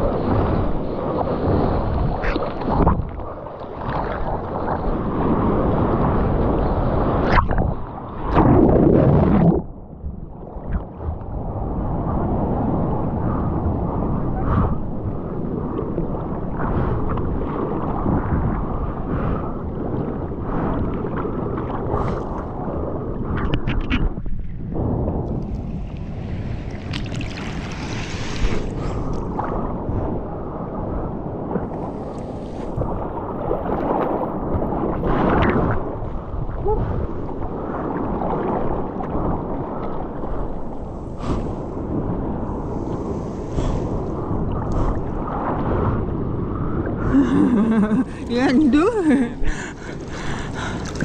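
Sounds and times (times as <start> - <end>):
muffled water sloshing and splashing: 0.0 - 51.0.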